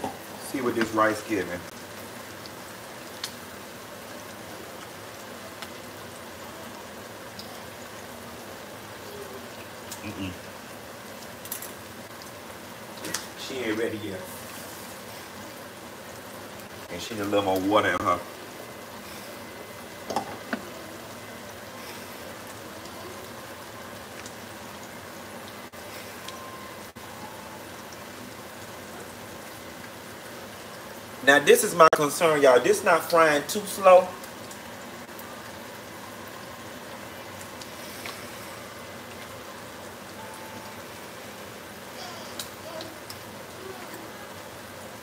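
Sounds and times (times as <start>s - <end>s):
pork chops sizzling in oil: 0.0s - 45.0s.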